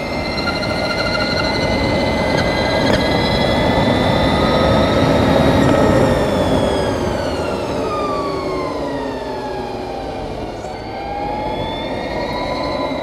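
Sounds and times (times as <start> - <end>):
electric motorcycle motor whine: 0.0 - 13.0
wind and road noise: 0.0 - 13.0.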